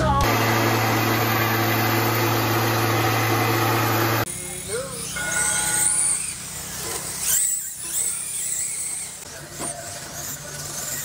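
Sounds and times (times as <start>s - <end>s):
model car motors whining: 0.0s - 11.0s.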